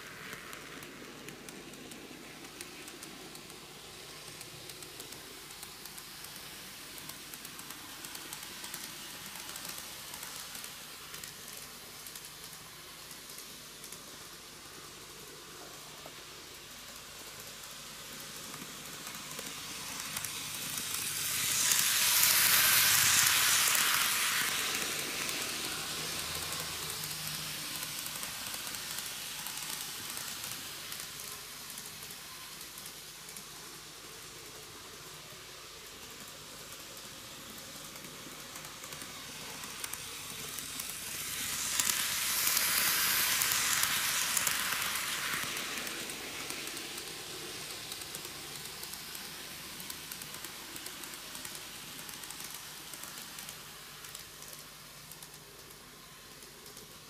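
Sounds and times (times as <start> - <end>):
model train hissing rattle: 0.0 - 57.0.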